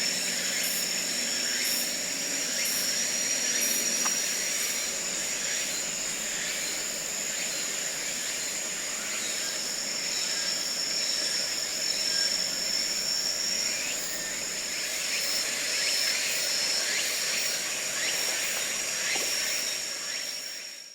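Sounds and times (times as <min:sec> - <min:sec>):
insects trilling: 0:00.0 - 0:20.9.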